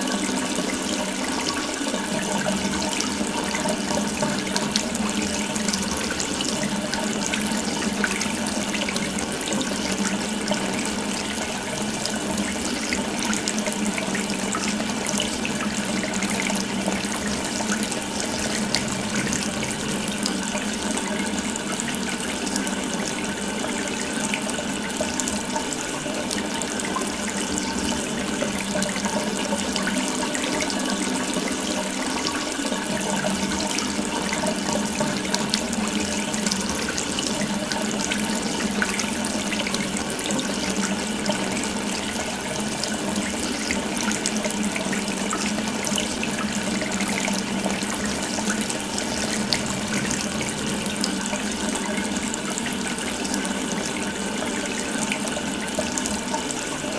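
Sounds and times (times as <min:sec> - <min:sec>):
water running from a tap: 0:00.0 - 0:56.9.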